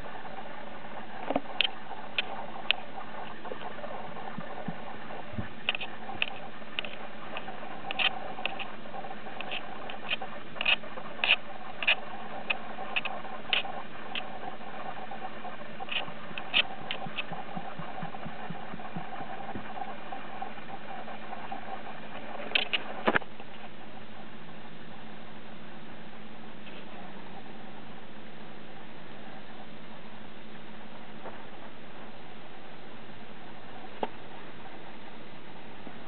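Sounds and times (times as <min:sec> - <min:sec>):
background hiss and hum: 0:00.0 - 0:36.0.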